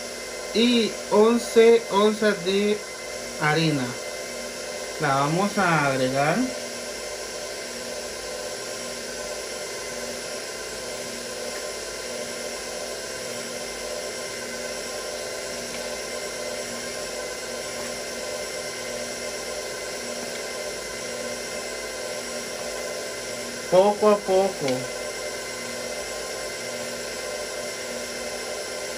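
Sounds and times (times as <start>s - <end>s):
stand mixer motor humming: 0.0s - 28.9s
whisk beating batter: 0.0s - 28.9s.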